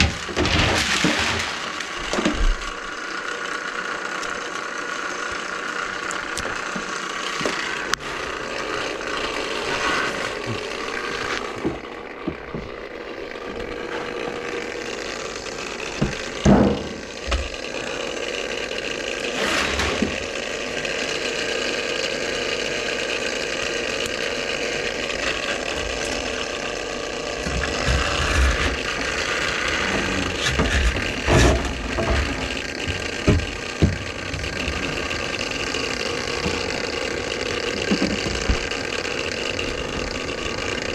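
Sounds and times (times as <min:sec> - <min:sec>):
drain-cleaning machine whirring: 0:00.0 - 0:40.9.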